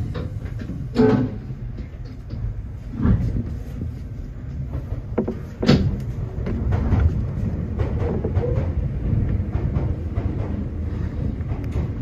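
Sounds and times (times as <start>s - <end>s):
train running rumble: 0.0s - 12.0s
wheels knocking over rail joints: 0.0s - 12.0s.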